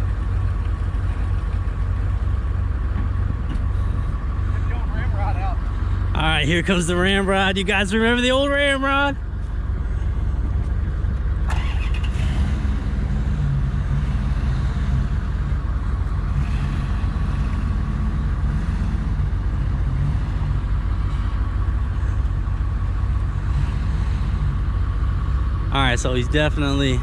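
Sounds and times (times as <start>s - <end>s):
truck engine rumbling: 0.0s - 27.0s.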